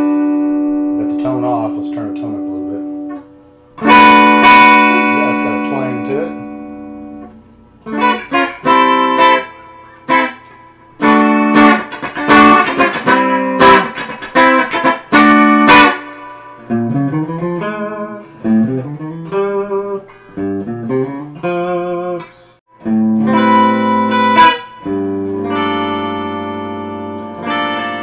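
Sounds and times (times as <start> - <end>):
twangy electric guitar: 0.0 - 28.0.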